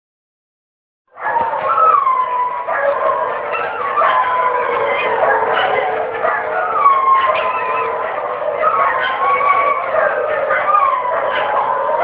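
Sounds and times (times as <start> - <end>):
dogs howling: 1.1 - 12.0.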